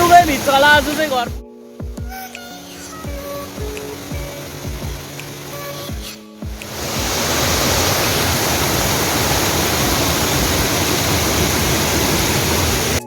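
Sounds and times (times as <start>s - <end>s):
rush of falling water: 0.0s - 1.4s, 3.0s - 13.0s.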